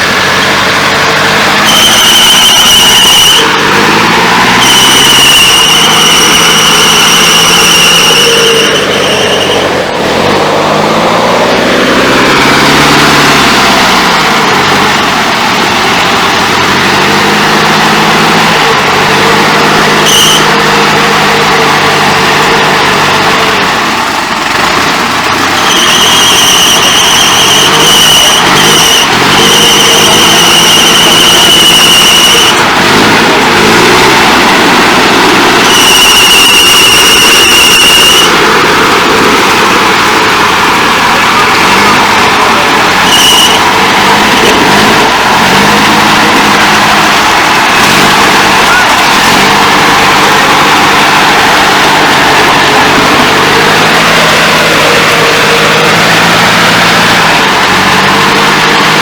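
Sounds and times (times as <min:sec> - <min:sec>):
car engine revving under load: 0:00.0 - 0:59.0
high-pitched whine: 0:00.0 - 0:59.0.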